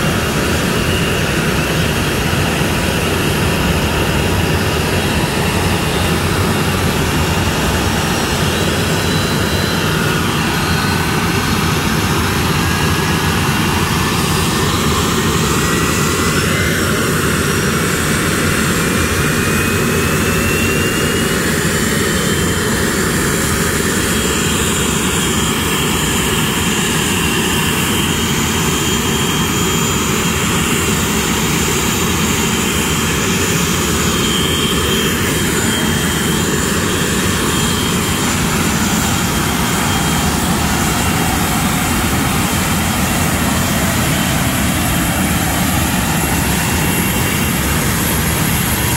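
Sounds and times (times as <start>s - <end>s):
jet engines spooling up: 0.0s - 48.9s.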